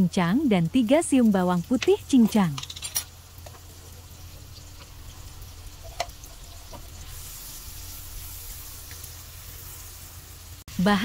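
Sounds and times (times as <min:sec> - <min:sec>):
onion and garlic sizzling in butter: 0:00.0 - 0:11.0.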